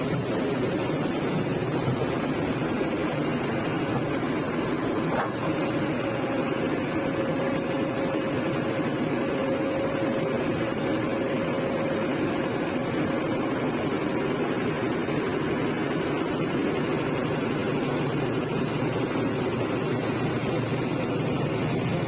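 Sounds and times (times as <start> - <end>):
excavator diesel engine running: 0.0 - 22.0
faint steady whine: 0.0 - 22.0.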